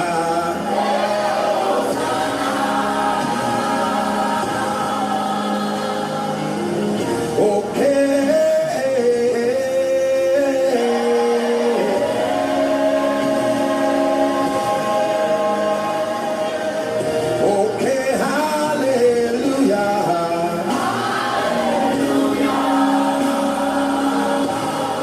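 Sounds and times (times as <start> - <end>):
gospel group singing: 0.0 - 25.0.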